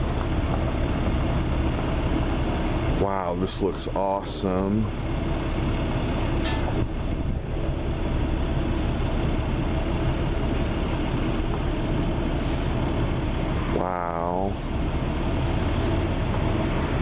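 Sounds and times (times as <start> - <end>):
steady background rumble and hum: 0.0 - 17.0.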